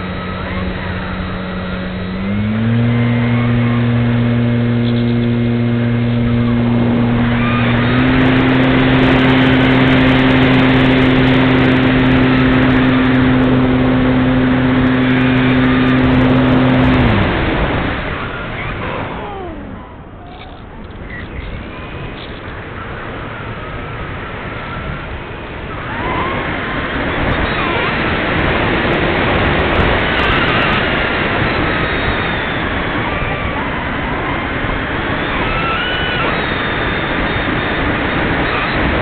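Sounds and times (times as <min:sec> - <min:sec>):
electric motor and propeller humming: 0:00.0 - 0:39.0
wind rushing over microphone: 0:00.0 - 0:39.0.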